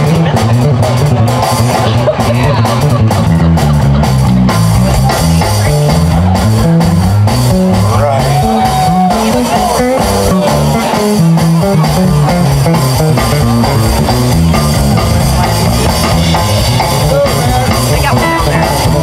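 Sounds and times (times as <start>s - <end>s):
drums: 0.0s - 19.0s
electric bass guitar line: 0.0s - 19.0s
electric guitar: 0.0s - 19.0s.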